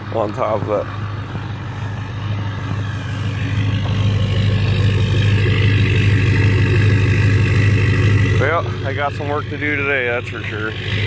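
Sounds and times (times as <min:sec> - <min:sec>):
diesel truck idling: 0:00.0 - 0:11.0.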